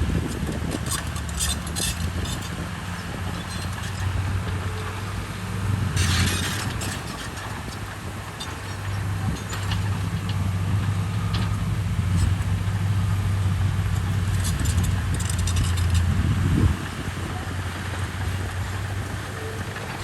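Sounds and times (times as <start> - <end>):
bulldozer diesel engine droning: 0.0 - 20.0.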